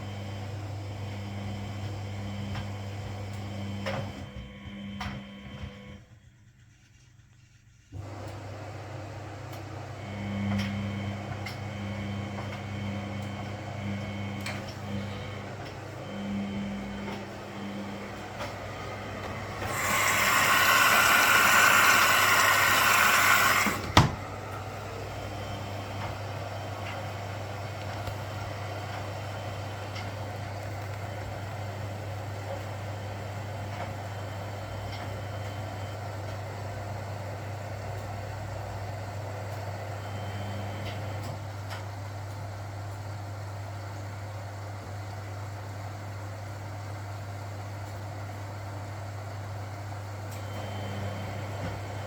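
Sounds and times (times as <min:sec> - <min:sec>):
washing machine low hum: 0:00.0 - 0:52.0
washing machine rushing hiss: 0:07.9 - 0:44.8, 0:45.4 - 0:52.0.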